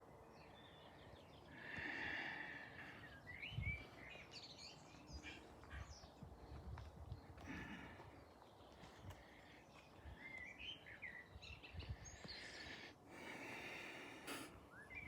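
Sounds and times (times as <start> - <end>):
birds chirping: 0.3 - 15.0.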